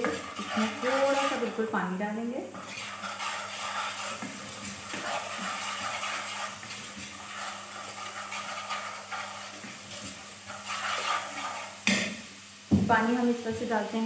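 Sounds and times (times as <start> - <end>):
wooden spoon stirring and scraping: 0.0 - 12.3
spice masala sizzling in a pot: 0.0 - 14.0.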